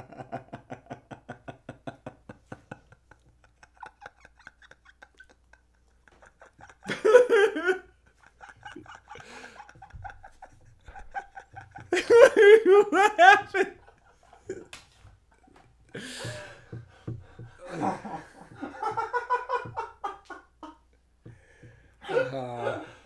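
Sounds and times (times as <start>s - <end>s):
men laughing hard: 0.0s - 20.9s, 22.0s - 23.0s
quiet giggling and breathy laughs: 0.0s - 23.0s.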